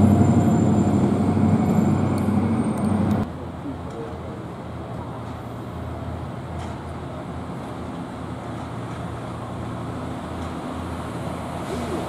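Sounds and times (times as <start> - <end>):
electric train rumbling and humming: 0.0 - 12.0.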